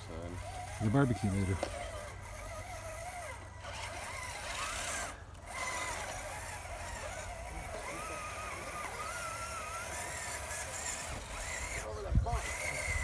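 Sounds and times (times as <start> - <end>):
toy truck electric motors whining: 0.0 - 13.0.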